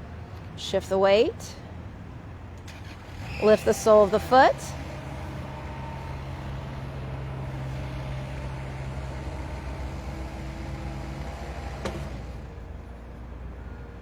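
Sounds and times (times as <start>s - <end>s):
machinery engine humming: 0.0s - 14.0s.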